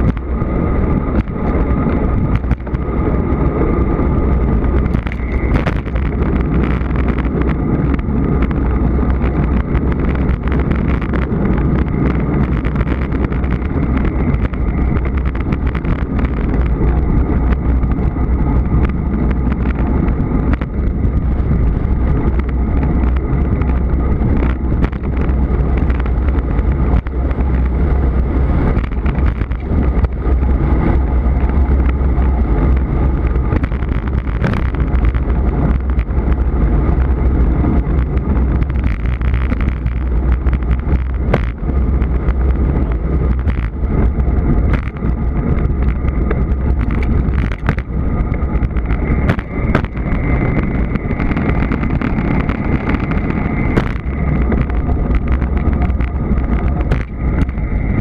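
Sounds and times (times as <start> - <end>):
bicycle tyre and road noise: 0.0 - 58.0
wind buffeting microphone: 0.0 - 58.0.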